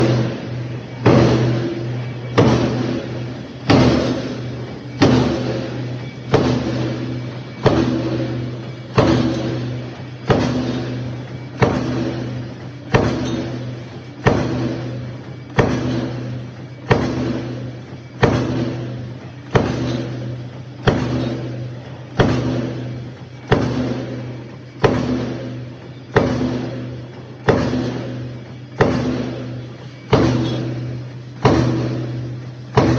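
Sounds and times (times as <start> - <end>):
motor hum: 0.0 - 32.9
press machine strokes: 0.0 - 32.9.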